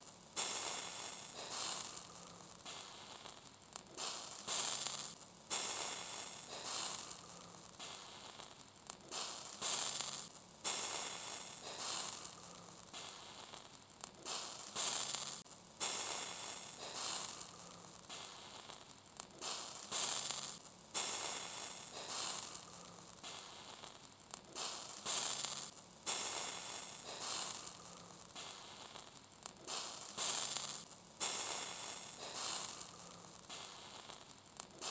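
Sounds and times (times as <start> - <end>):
fat sizzling on hot grill: 0.0 - 34.9.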